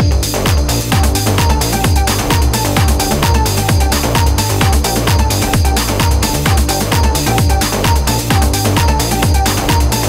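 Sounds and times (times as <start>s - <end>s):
electronic dance music: 0.0s - 10.0s
kick drum beat: 0.0s - 10.0s
repeating synth note: 0.7s - 10.0s.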